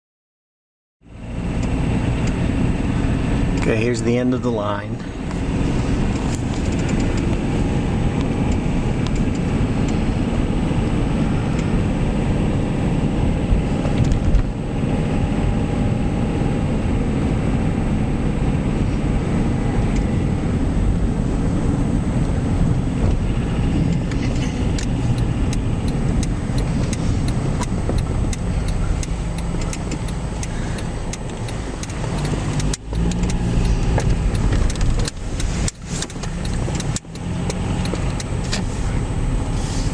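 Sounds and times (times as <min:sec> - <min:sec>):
car engine and road noise: 0:01.0 - 0:39.9.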